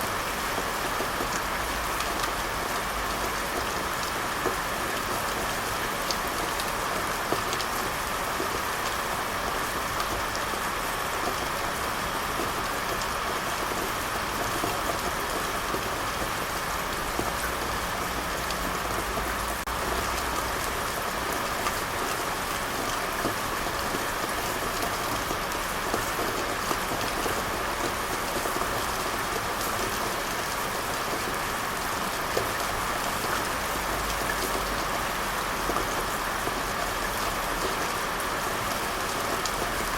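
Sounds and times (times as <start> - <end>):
raindrops pattering on a surface: 0.0 - 39.9
steady rain: 0.0 - 39.9.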